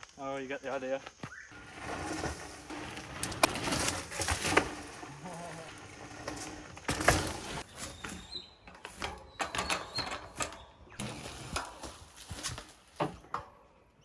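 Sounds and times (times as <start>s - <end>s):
mountain bike rattling over bumps: 1.5s - 13.5s.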